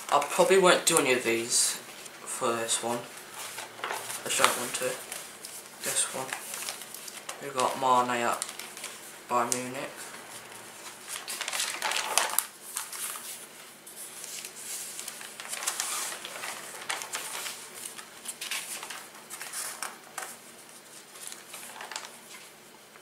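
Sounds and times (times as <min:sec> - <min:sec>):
magazine pages rustling: 0:00.0 - 0:23.0.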